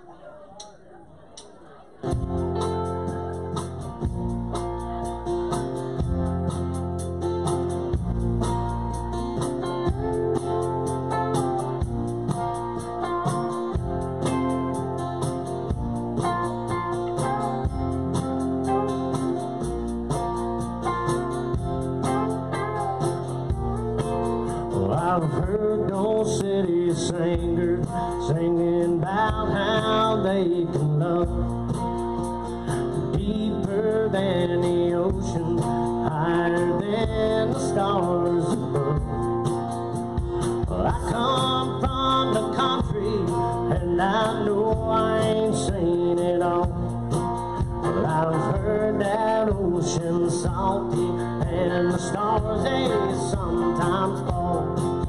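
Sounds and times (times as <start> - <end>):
guitar: 0.0 - 55.0
live country band playing: 1.4 - 55.0.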